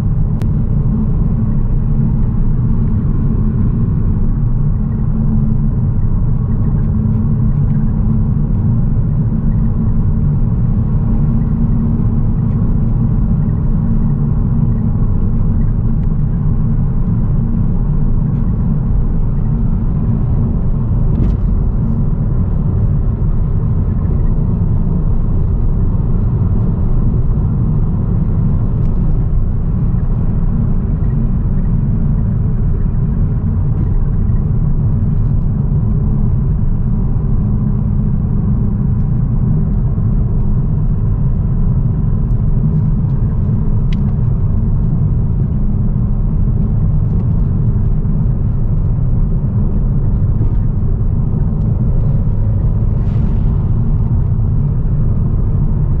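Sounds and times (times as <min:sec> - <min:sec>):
car engine drone: 0:00.0 - 0:56.0
tyre and road noise: 0:00.0 - 0:56.0.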